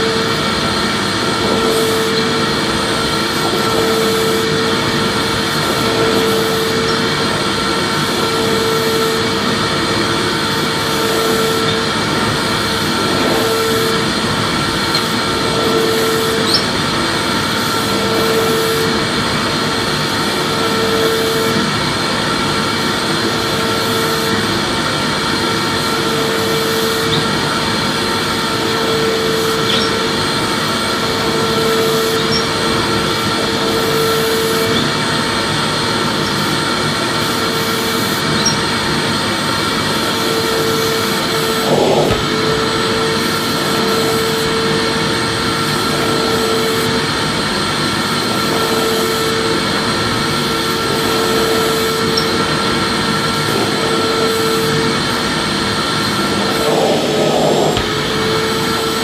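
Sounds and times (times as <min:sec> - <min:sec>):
vacuum cleaner motor: 0:00.0 - 0:59.0.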